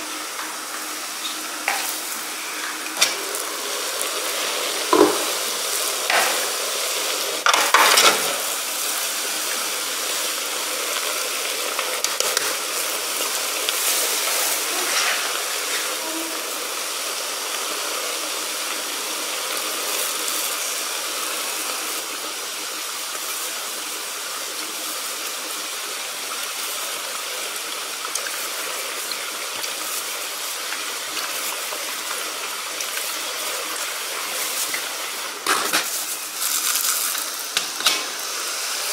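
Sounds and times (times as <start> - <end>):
water boiling and steaming: 0.0 - 38.9.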